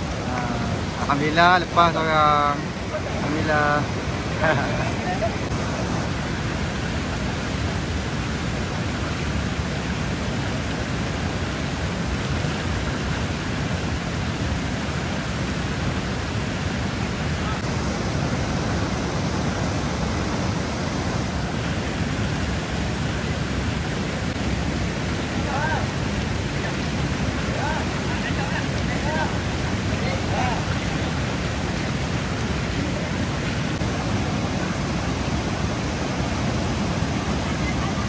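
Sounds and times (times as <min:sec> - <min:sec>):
fast-flowing river water: 0:00.0 - 0:38.0.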